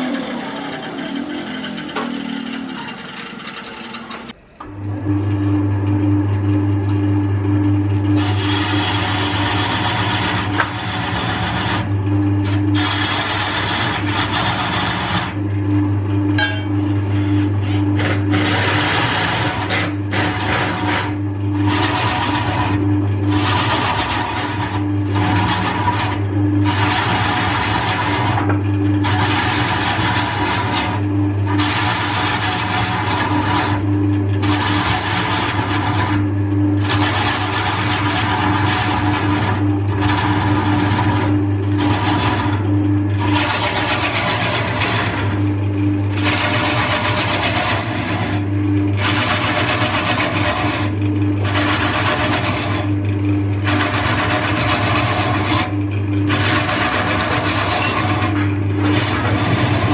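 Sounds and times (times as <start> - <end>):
gouge cutting spinning log: 0.0 - 4.4, 8.1 - 15.5, 16.4 - 59.9
wood lathe motor humming: 0.0 - 5.4, 6.3 - 59.9.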